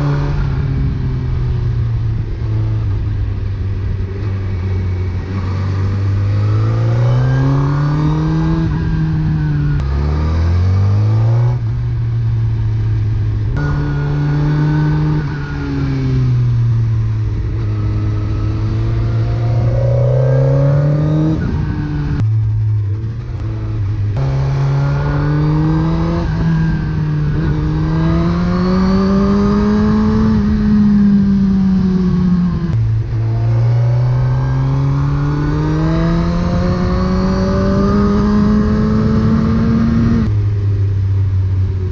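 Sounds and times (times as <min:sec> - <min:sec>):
gear shift pitch drops: 0:00.0 - 0:40.9
motorcycle engine revving: 0:00.0 - 0:41.9.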